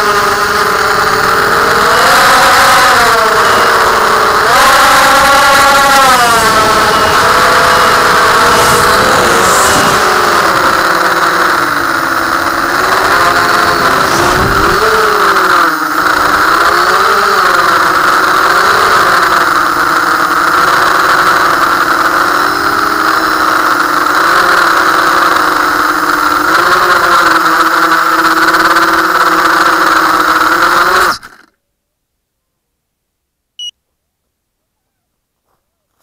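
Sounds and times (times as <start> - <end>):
drone motors and propellers whining: 0.0 - 31.5.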